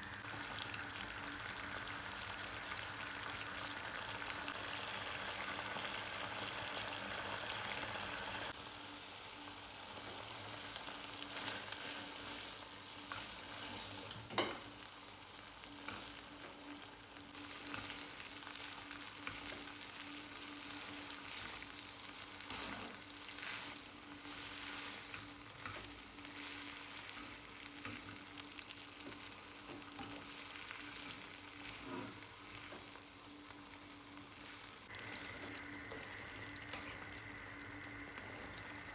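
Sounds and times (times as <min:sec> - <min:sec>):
food sizzling in frying pan: 0:00.0 - 0:38.9.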